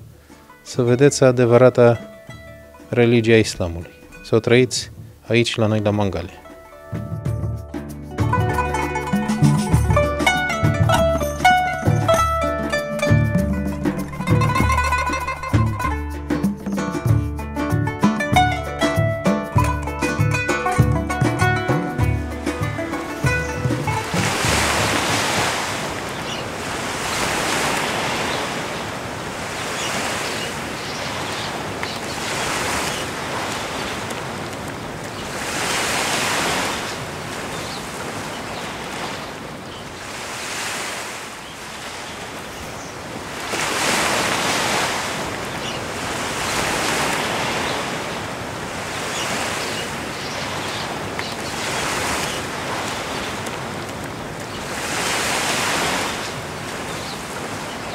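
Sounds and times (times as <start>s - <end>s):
sea waves breaking on shore: 7.7s - 57.9s.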